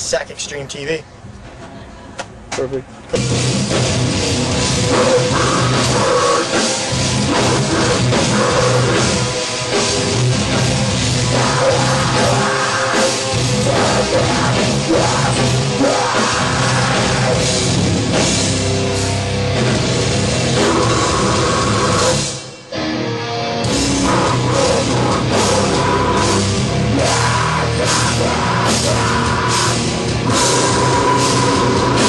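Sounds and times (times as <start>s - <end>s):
distorted guitars: 3.1s - 32.0s
pounding drum kit: 3.2s - 22.4s, 23.6s - 32.0s.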